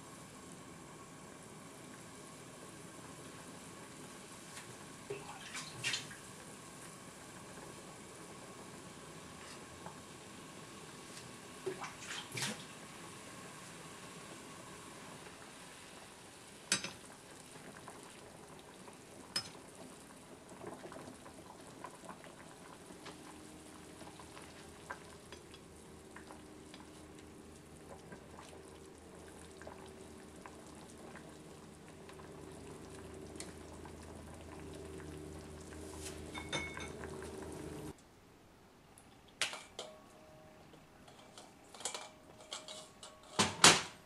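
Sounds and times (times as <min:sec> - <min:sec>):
pot bubbling: 0:00.1 - 0:38.0.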